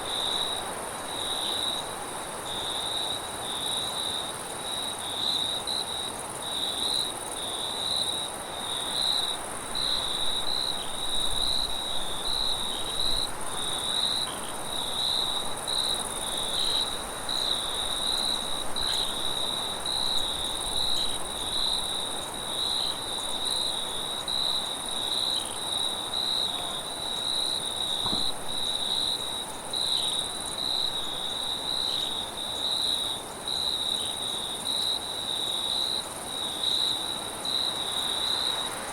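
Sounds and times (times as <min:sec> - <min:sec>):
crickets chirping: 0:00.0 - 0:38.9
high insect hiss: 0:00.0 - 0:38.9.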